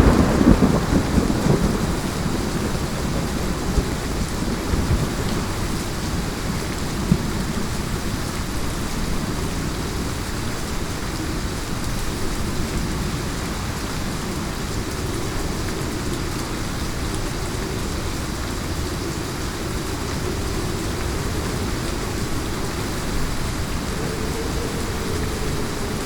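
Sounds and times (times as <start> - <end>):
heavy rain falling: 0.0 - 26.0
low storm rumble: 0.0 - 26.0.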